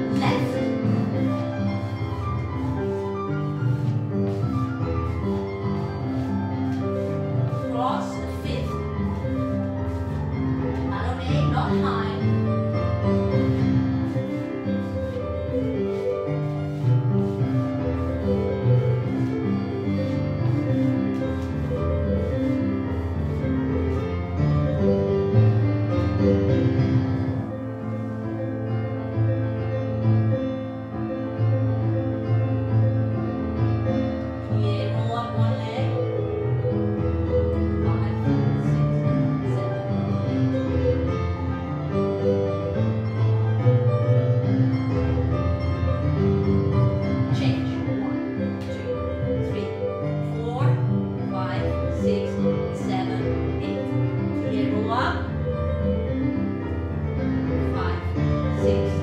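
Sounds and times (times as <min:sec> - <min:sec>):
solo piano playing: 0:00.0 - 0:59.0.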